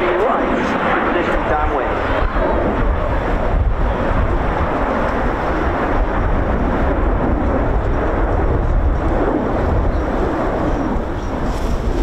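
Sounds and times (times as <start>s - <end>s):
jet engines deep rumble: 0.0s - 12.0s.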